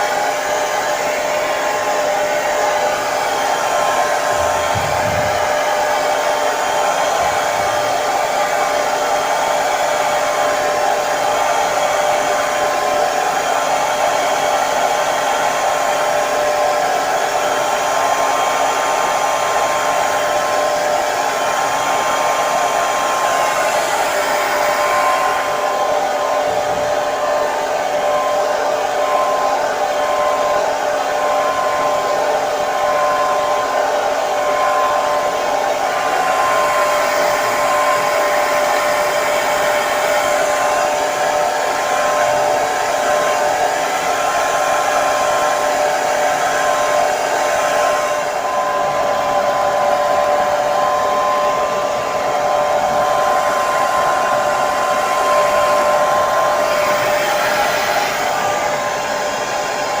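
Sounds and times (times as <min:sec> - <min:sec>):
hair dryer blowing: 0:00.0 - 1:00.0.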